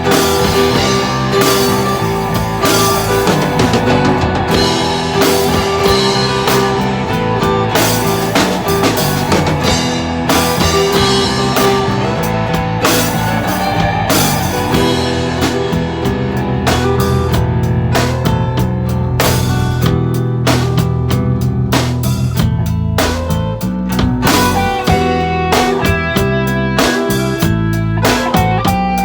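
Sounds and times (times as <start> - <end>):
rock band playing instrumental: 0.0 - 29.0.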